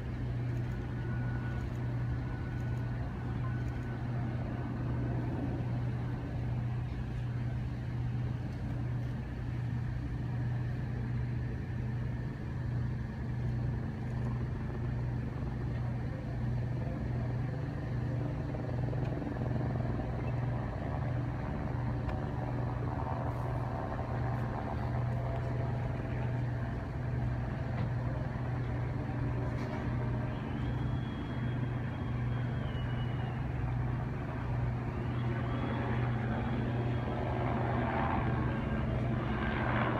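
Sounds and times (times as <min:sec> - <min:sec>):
low engine drone: 0:00.0 - 0:39.9.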